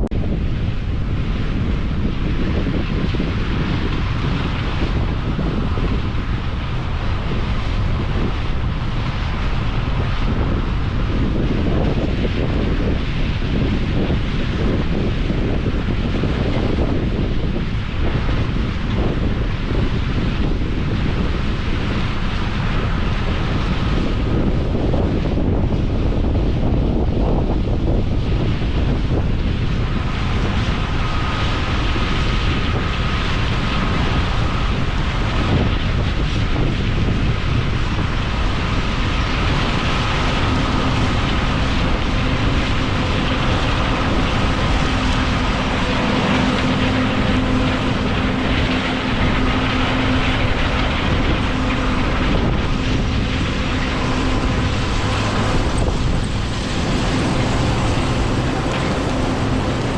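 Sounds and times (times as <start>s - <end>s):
faint steady whines: 0.0s - 59.9s
heavy machinery drone: 0.0s - 59.9s
wind on microphone: 0.0s - 59.9s.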